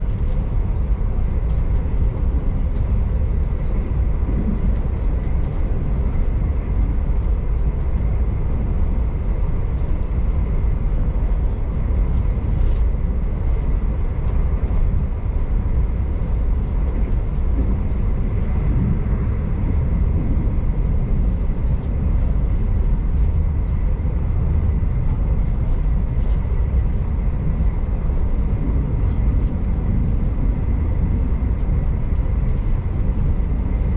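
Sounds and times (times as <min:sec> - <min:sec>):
faint steady whine: 0:00.0 - 0:33.9
train rumbling on rails: 0:00.0 - 0:33.9.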